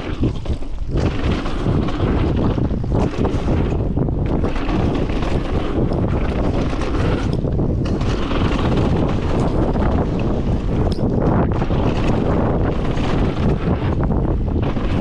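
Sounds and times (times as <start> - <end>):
tyre and trail rattle: 0.0 - 15.0
wind buffeting microphone: 0.0 - 15.0.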